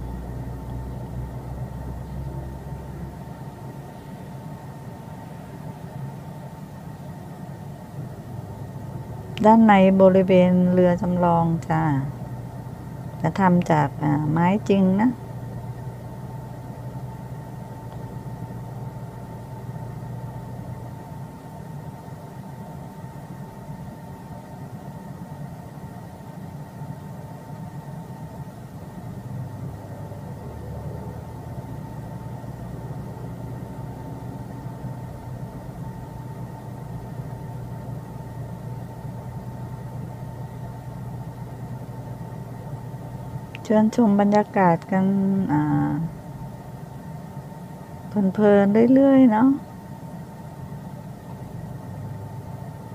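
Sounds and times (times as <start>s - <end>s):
faint high whine: 0.0s - 52.9s
mechanical hum: 0.0s - 52.9s.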